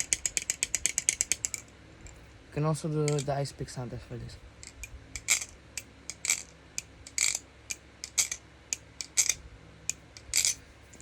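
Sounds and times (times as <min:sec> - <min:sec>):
butterfly knife handles clacking: 0:00.0 - 0:02.2, 0:03.0 - 0:03.4, 0:04.6 - 0:11.0.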